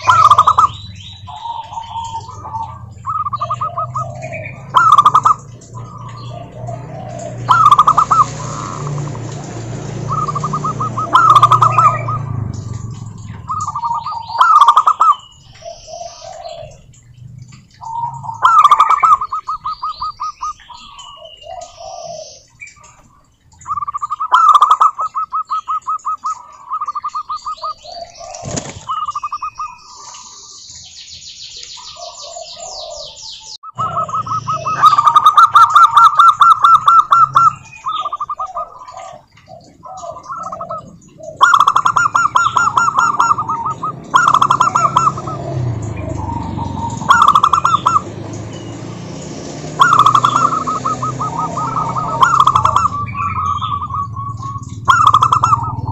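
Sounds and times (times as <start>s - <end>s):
doves cooing: 0.0s - 30.5s, 31.8s - 55.9s
small birds chirping: 0.0s - 55.9s.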